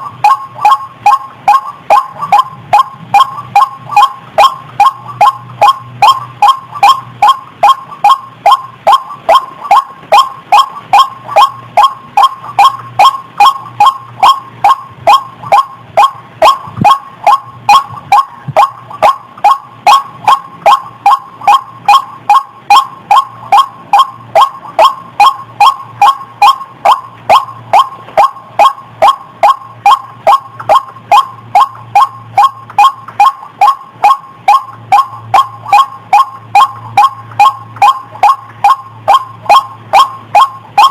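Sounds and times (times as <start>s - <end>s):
waterhen calling: 0.0s - 40.9s.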